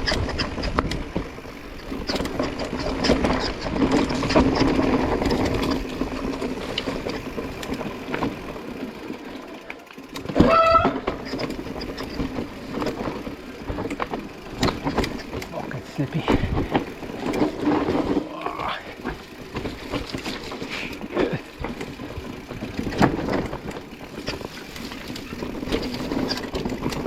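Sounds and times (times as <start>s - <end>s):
bike tyres on dirt trail: 0.0s - 27.0s
chain and frame rattling: 0.0s - 27.0s.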